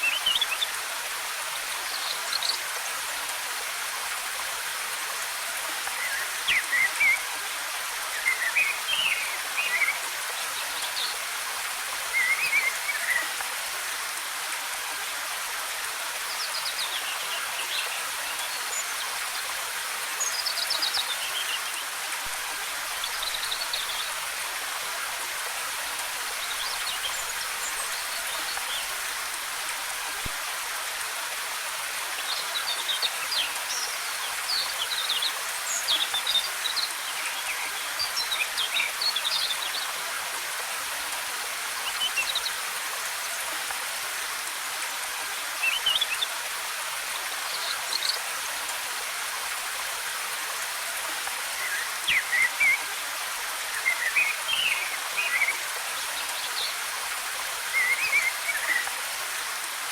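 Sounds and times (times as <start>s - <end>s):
waterfall rushing: 2.3s - 59.9s.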